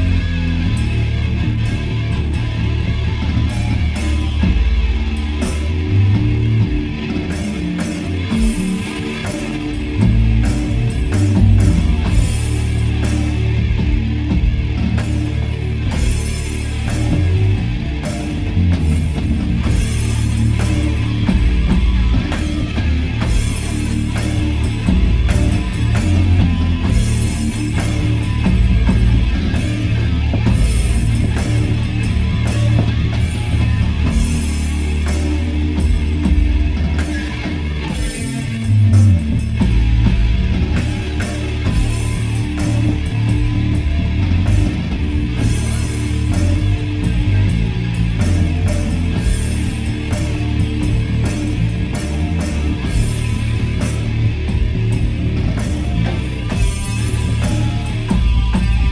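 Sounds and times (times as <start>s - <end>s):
rock band playing: 0.0s - 58.9s.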